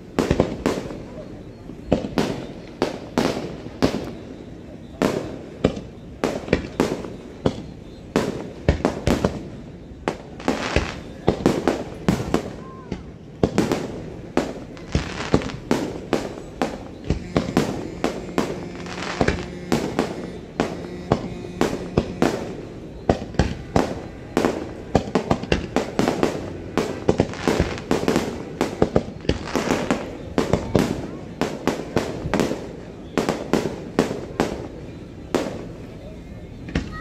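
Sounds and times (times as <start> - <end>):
fireworks bursting with echo: 0.0 - 37.0.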